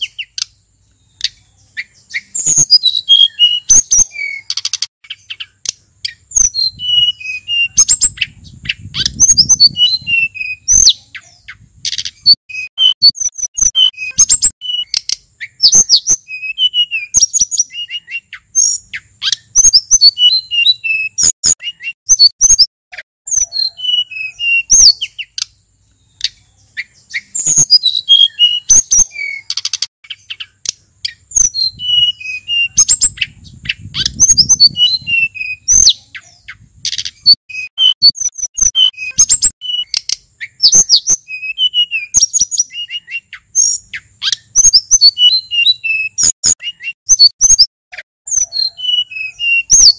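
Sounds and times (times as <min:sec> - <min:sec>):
bird singing whistles and chirps: 0:00.0 - 0:22.7, 0:23.3 - 0:47.7, 0:48.3 - 0:49.9.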